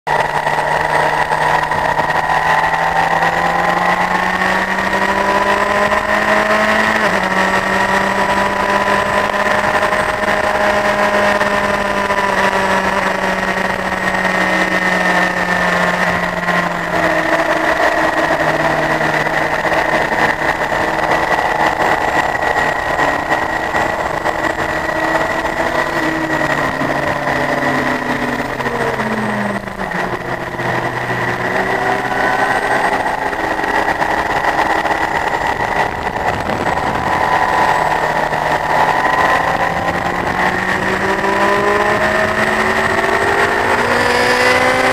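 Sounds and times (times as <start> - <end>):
motorcycle engine running: 0.1 - 44.9.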